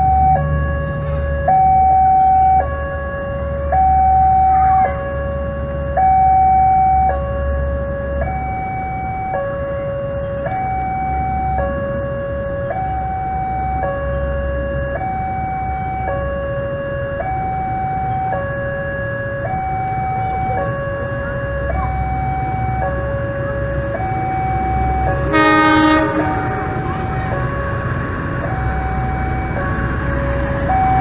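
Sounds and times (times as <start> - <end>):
two-tone level crossing alarm: 0.0 - 31.0.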